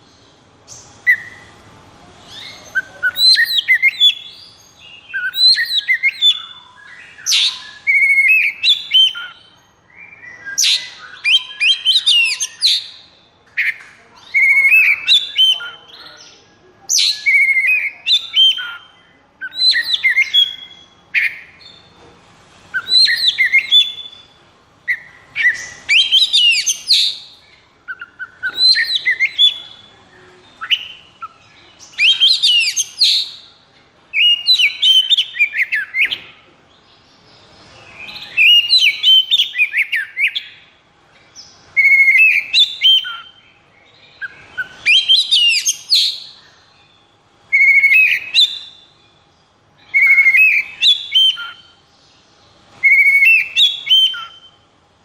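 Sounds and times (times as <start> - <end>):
magpie-robin singing: 0.0 - 22.0, 22.7 - 54.7.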